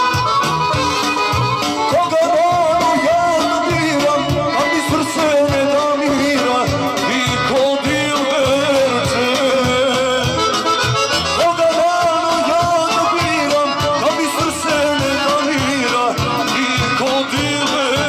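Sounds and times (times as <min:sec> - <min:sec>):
folk band dance music: 0:00.0 - 0:18.0.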